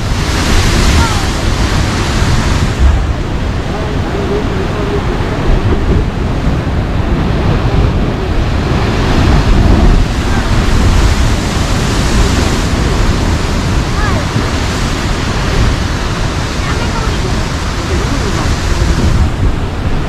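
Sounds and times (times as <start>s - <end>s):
surf crashing on rocks: 0.0s - 20.0s.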